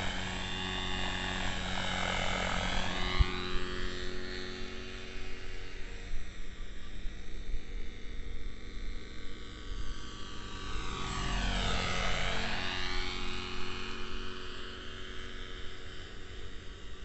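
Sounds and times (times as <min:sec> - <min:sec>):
model helicopter engine and rotor: 0:00.0 - 0:17.0.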